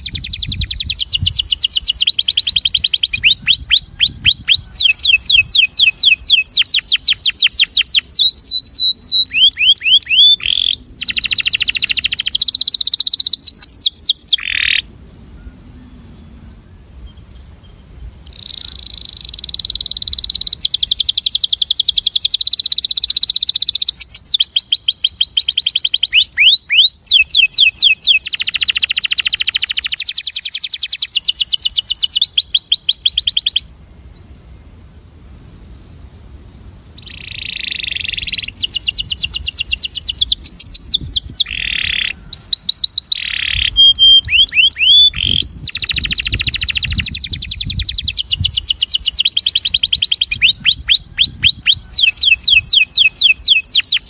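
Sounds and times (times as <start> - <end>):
canary singing fast trills: 0.0 - 15.8, 18.0 - 33.7, 37.0 - 54.0.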